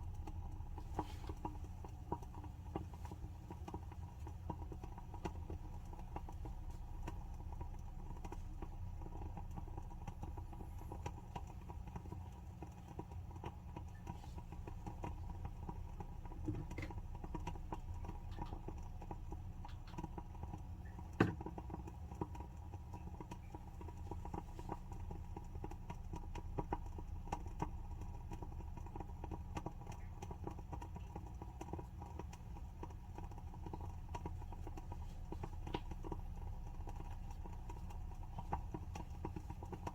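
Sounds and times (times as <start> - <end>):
steady low hum: 0.0 - 39.9
wooden candle wick crackling: 0.0 - 39.9.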